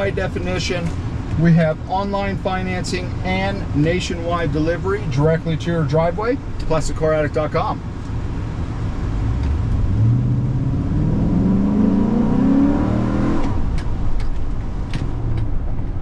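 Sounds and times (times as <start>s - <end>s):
truck engine rumble from inside: 0.0s - 16.0s.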